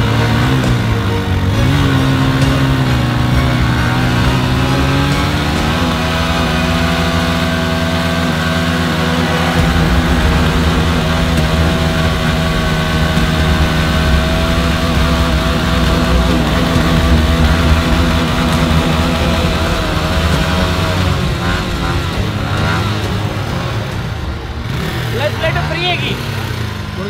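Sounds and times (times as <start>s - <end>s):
motorcycle engines revving high: 0.0s - 27.0s.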